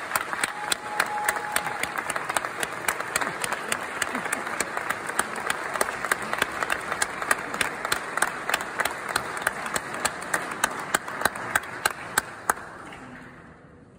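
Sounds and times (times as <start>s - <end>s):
person clapping close by: 0.0s - 12.7s
audience applauding: 0.0s - 13.2s.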